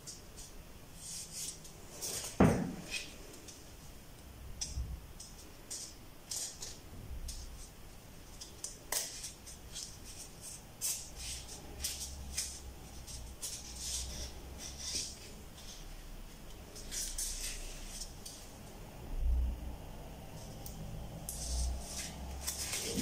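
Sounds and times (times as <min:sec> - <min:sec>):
materials rubbing and rustling: 0:00.0 - 0:03.8, 0:05.2 - 0:18.9, 0:20.3 - 0:23.0.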